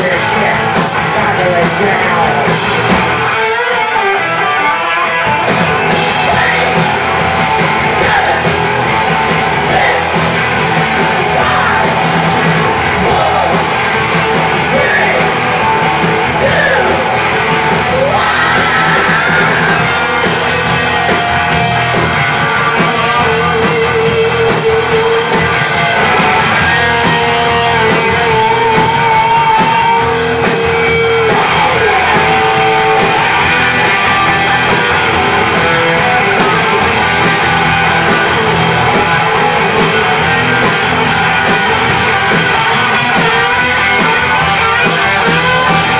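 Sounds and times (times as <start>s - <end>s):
bass guitar: 0.0s - 45.9s
distorted electric guitars: 0.0s - 45.9s
drums: 0.0s - 45.9s
shouted vocals: 5.8s - 45.9s.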